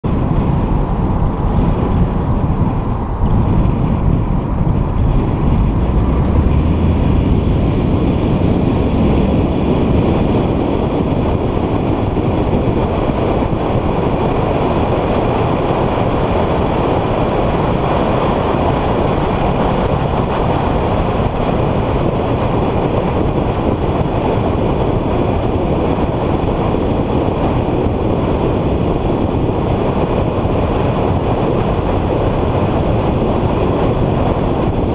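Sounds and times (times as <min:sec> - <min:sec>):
car interior driving noise: 0:00.0 - 0:34.9.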